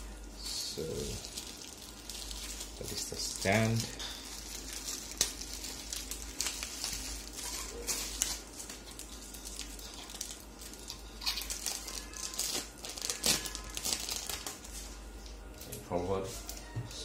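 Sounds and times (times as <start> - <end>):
plastic wrapping crinkling: 0.6 - 16.8.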